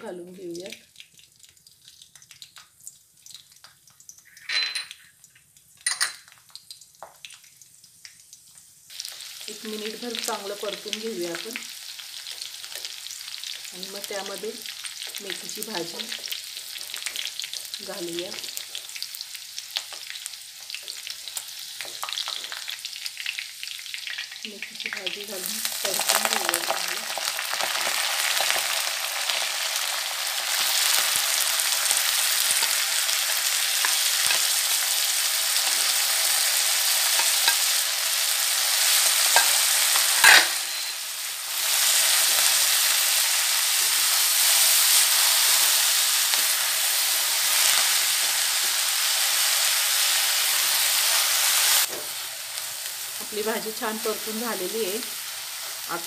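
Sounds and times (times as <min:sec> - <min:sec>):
leaves sizzling in hot oil: 0:00.0 - 0:56.0.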